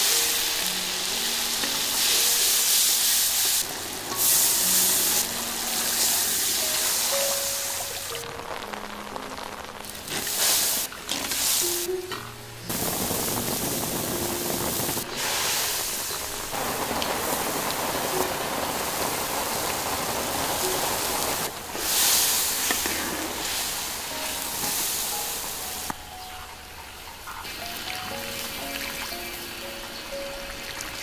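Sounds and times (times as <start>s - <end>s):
broth boiling in a wok: 0.0s - 26.4s.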